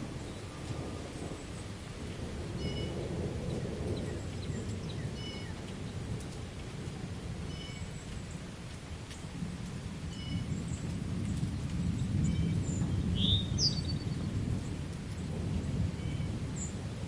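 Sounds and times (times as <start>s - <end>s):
thunder rumbling: 0.0s - 7.5s, 9.3s - 17.0s
rain: 0.0s - 17.0s.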